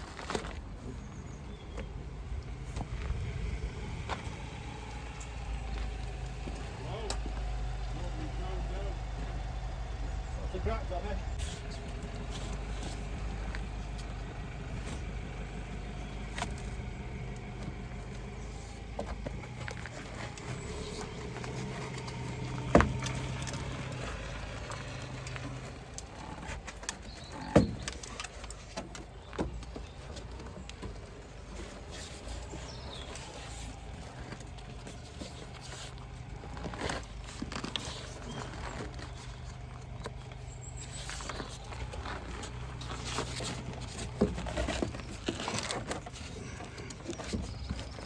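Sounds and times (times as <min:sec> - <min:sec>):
low vehicle rumble: 0:00.0 - 0:48.0.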